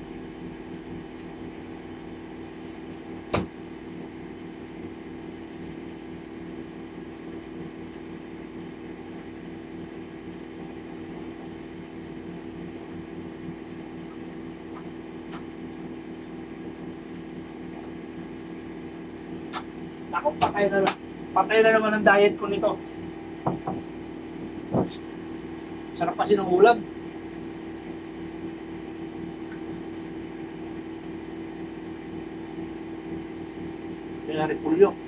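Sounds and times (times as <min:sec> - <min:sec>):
machine hum: 0:00.0 - 0:35.0.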